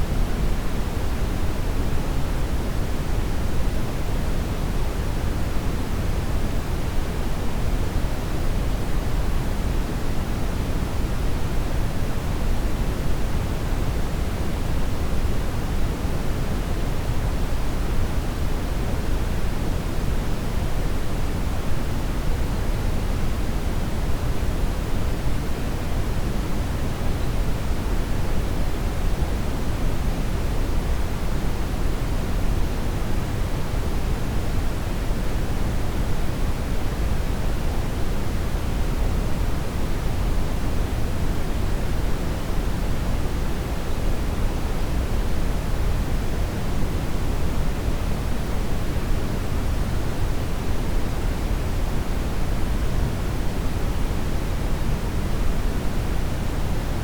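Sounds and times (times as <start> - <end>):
brown noise hiss: 0.0 - 57.0.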